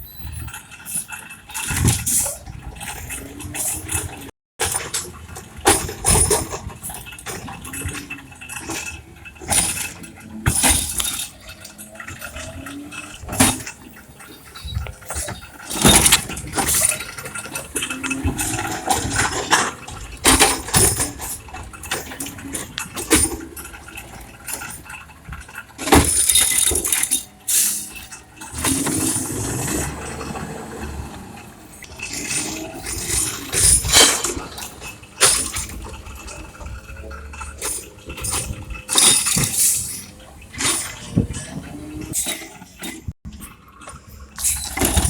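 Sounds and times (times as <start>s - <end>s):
recyclables crashing and clinking: 0.5s - 45.0s
truck engine running: 4.9s - 42.2s.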